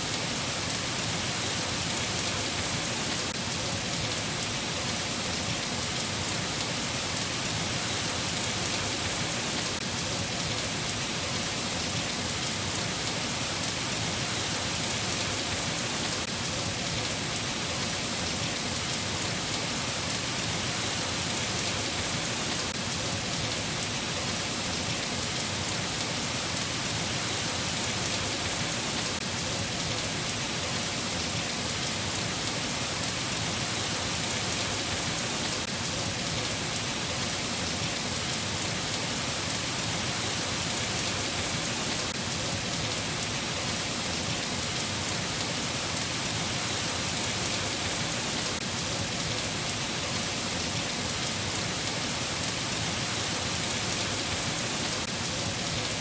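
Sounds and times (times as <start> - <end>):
rain falling steadily: 0.0 - 56.0.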